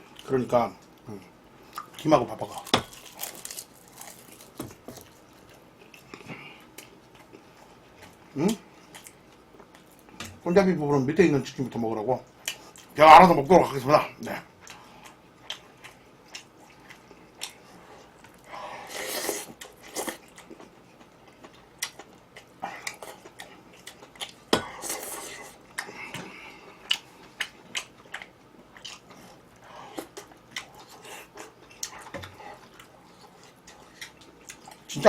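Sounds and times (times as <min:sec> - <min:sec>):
crunchy chewing: 0:01.7 - 0:10.2, 0:14.6 - 0:34.9.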